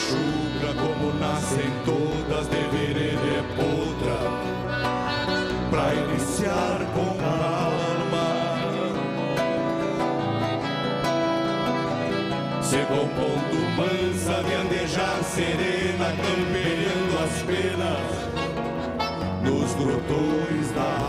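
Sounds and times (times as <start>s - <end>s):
classical guitars playing: 0.0s - 21.0s.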